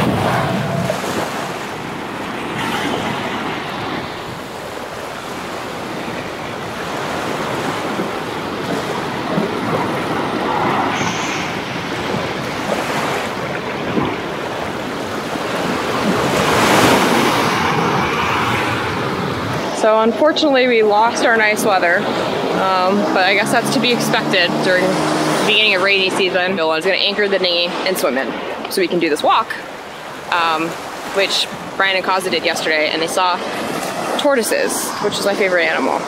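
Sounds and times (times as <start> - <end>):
surf washing up beach: 0.0 - 36.0
wind buffeting microphone: 0.0 - 36.0.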